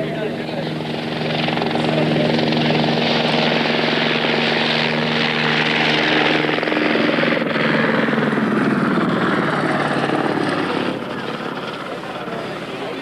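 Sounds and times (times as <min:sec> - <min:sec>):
steady humming drone: 0:00.0 - 0:13.0.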